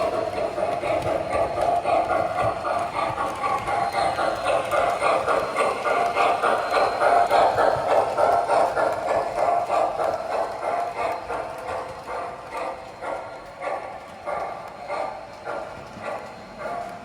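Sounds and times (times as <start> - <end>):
model train rolling and clicking: 0.0 - 17.0.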